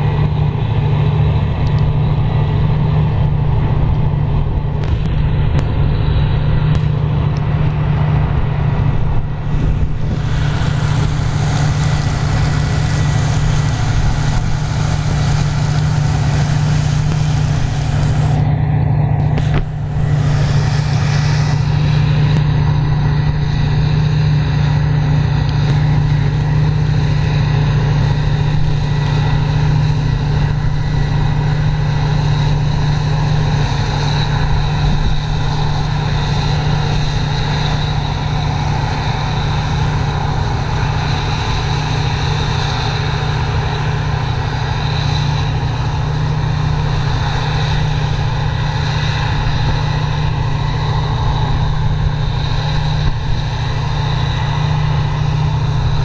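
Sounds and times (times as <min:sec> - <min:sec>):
diesel farm machinery running: 0:00.0 - 0:56.0.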